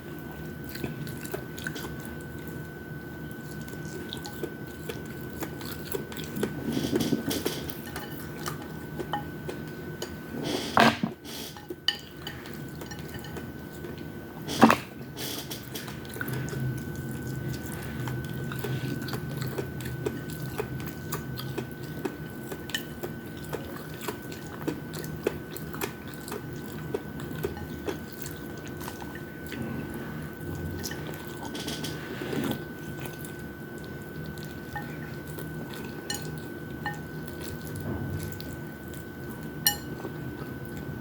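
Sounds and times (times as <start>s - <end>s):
chewing and biting food: 0.1s - 10.2s, 12.4s - 41.0s.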